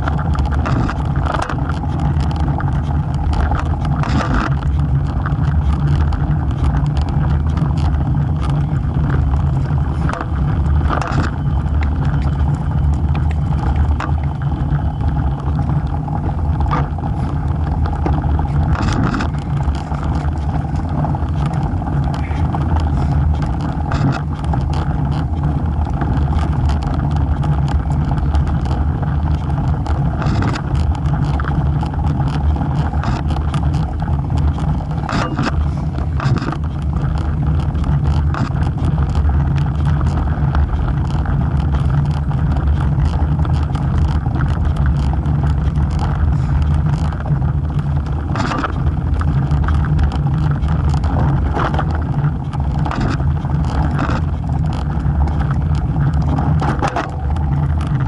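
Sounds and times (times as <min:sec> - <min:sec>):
bicycle rumbling on asphalt: 0:00.0 - 0:58.0
wind on microphone: 0:00.0 - 0:58.0.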